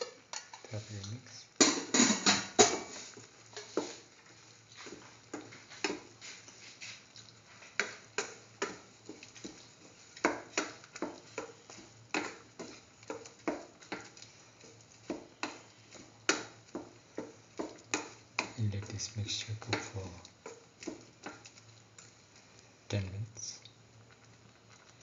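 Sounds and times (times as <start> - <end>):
spoon stirring in metal pot: 0.0 - 22.5.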